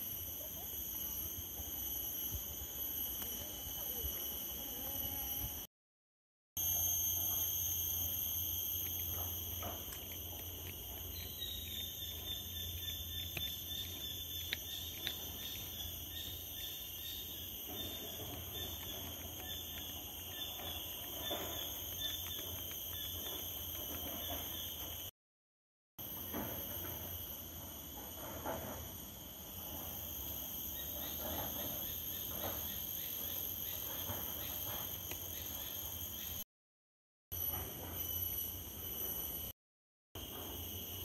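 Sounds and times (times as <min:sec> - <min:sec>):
high-pitched insect chorus: 0:00.0 - 0:05.7, 0:06.6 - 0:25.1, 0:26.0 - 0:36.4, 0:37.4 - 0:39.5, 0:40.2 - 0:41.0.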